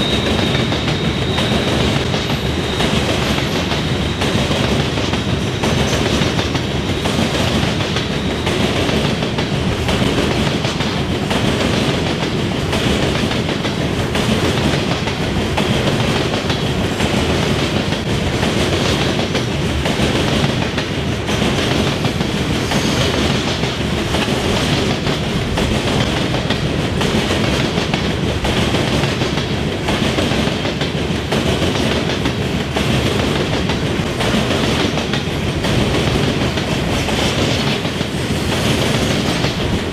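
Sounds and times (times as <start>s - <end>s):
train wheels clattering over crossings: 0.0s - 39.9s.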